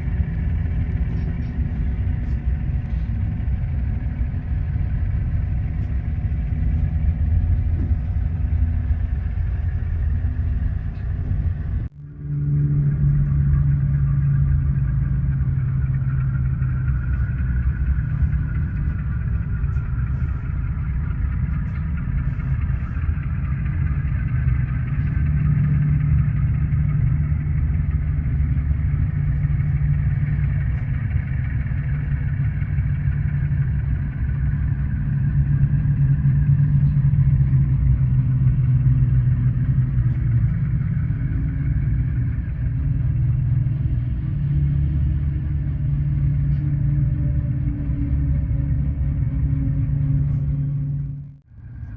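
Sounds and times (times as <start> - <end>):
model locomotive diesel hum: 0.0 - 51.9.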